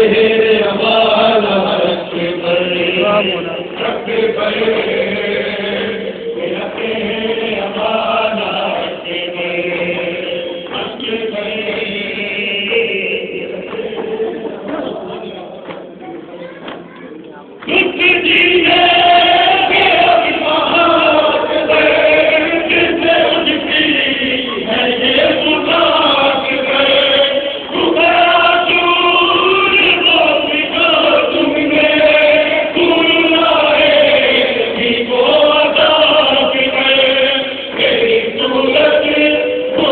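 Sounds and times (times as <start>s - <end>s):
voices chanting: 0.0s - 15.7s, 17.6s - 39.9s.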